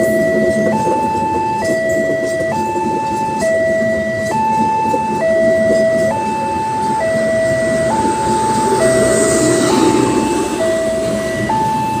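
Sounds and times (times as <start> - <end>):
train coaches rumbling on rails: 0.0 - 12.0
two-tone crossing alarm: 0.0 - 12.0.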